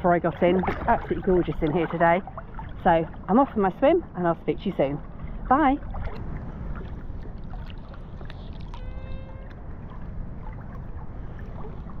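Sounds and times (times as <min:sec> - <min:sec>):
small splashes: 0:00.0 - 0:03.7, 0:04.9 - 0:12.0
low microphone rumble: 0:00.0 - 0:12.0
waves lapping and sloshing: 0:00.0 - 0:12.0.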